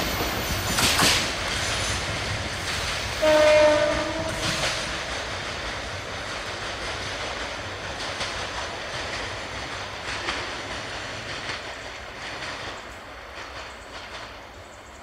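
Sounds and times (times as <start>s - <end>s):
train wheels clattering on track: 0.0s - 15.0s.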